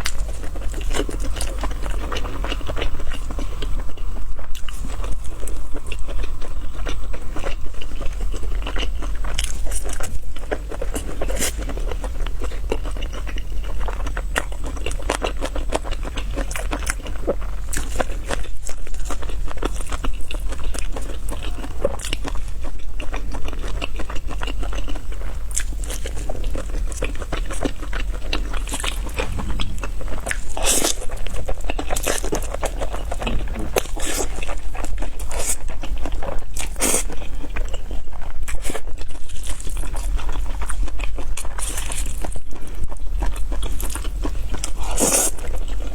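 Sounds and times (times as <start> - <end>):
biting and chewing food: 0.0 - 45.9.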